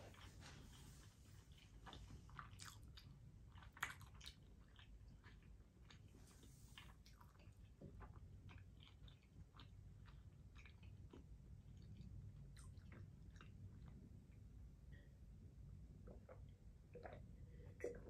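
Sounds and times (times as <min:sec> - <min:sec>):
faint chewing with wet mouth clicks: 0:00.0 - 0:18.0
low room hum: 0:00.0 - 0:18.0.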